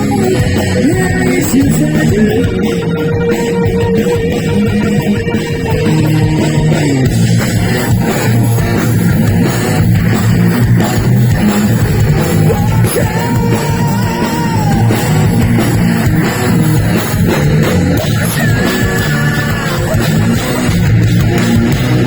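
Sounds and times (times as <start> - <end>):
heavy metal band playing: 0.0 - 22.0.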